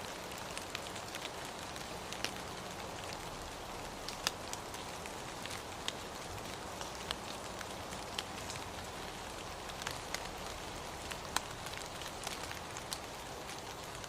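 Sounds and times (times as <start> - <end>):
rain drop ticks: 0.0 - 14.0
steady rain hiss: 0.0 - 14.0.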